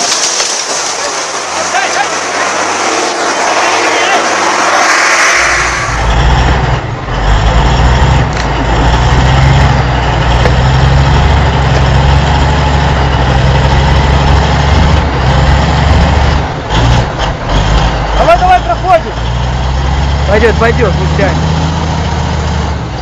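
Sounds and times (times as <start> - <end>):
heavy truck engine running: 0.0 - 23.0.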